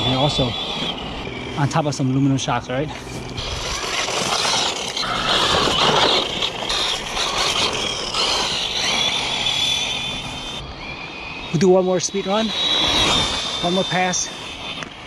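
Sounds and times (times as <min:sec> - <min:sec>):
rc truck motor whining: 0:00.0 - 0:15.0
tyre noise on asphalt: 0:00.0 - 0:15.0.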